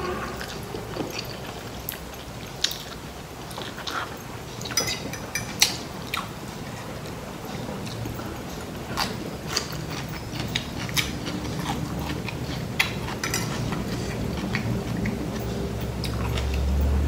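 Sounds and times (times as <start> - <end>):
low steady hum: 0.0 - 17.0
person chewing food: 0.0 - 17.0.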